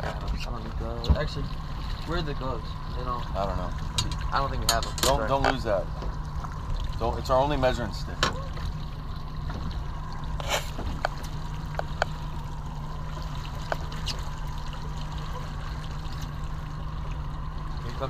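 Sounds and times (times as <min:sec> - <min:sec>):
low rumble: 0:00.0 - 0:18.0
water lapping against boat hull: 0:00.0 - 0:18.0.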